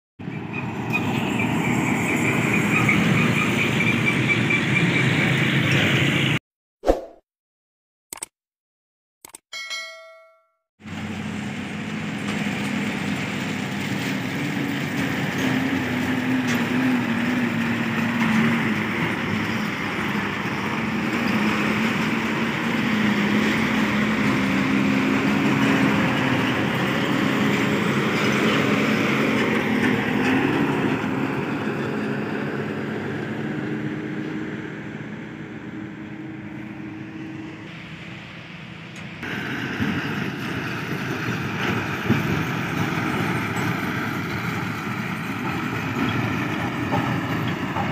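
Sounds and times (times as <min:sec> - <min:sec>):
dump truck diesel engines: 0:00.2 - 0:06.4, 0:10.8 - 0:47.9.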